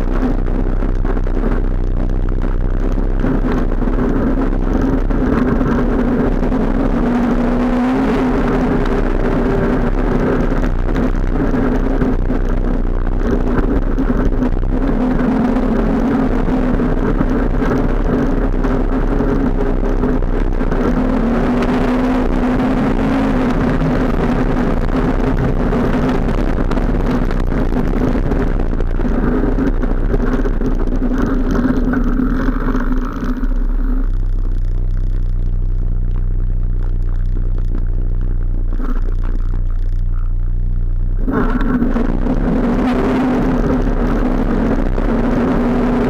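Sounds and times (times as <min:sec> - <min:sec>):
quad bike engine running: 0:00.0 - 0:46.0.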